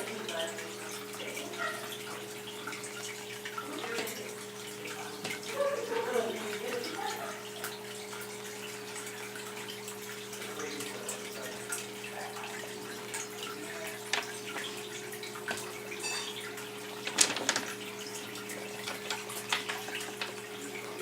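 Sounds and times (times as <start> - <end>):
small splashes in water: 0.0 - 21.0.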